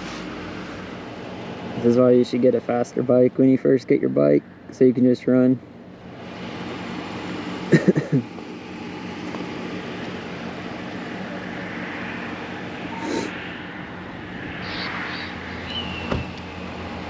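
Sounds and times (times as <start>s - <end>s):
idling vehicle engine hum: 0.0s - 17.0s.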